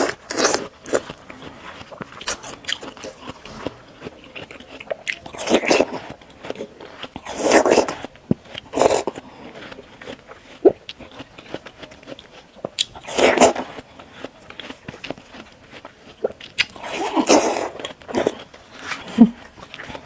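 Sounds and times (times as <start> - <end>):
chewing and wet mouth clicks: 0.0 - 20.0
crunchy bites into watermelon: 0.0 - 20.0.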